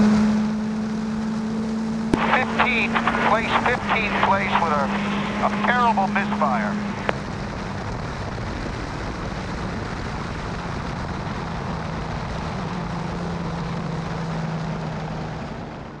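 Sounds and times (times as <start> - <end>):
race car engine drone: 0.0 - 16.0.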